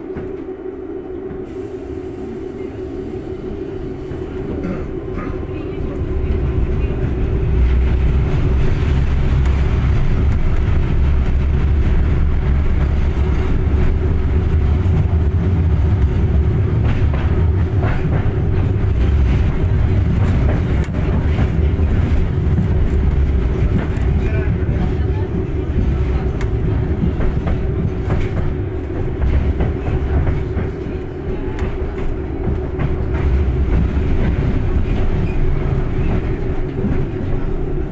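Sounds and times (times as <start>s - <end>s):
tram rumbling on rails: 0.0s - 37.9s.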